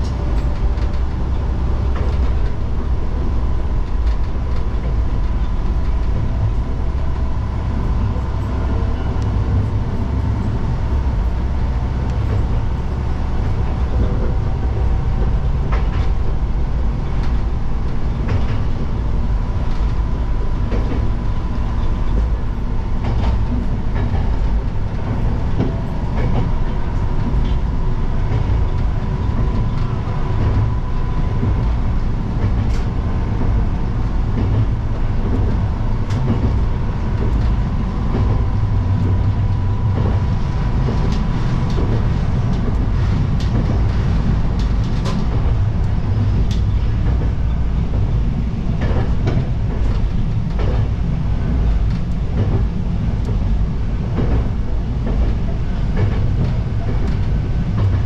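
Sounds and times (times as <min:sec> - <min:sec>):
train engine rumble: 0:00.0 - 0:58.0.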